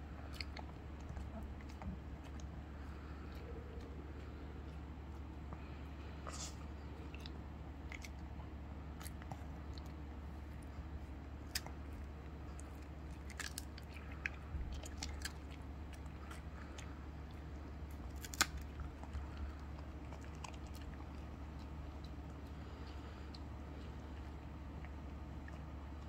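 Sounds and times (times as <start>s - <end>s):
puppy crunching dog biscuit: 0.0s - 26.0s.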